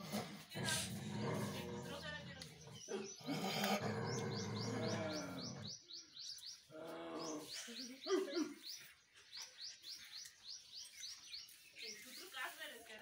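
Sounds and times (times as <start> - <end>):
small bird chirping: 1.3 - 12.9.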